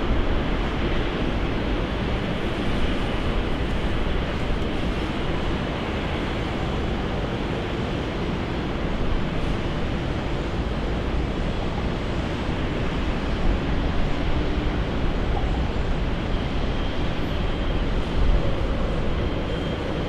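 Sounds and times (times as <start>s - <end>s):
jet airliner engine rumble: 0.0s - 20.0s.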